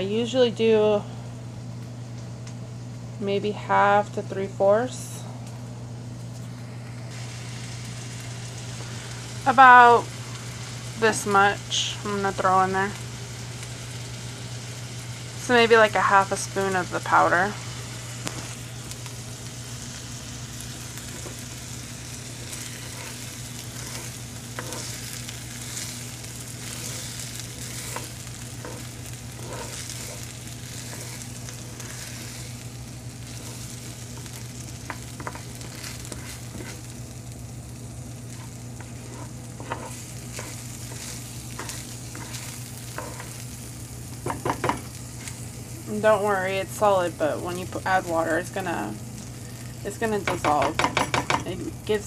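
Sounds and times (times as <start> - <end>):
steady low hum: 0.0 - 52.0
rice sizzling in butter: 6.6 - 52.0.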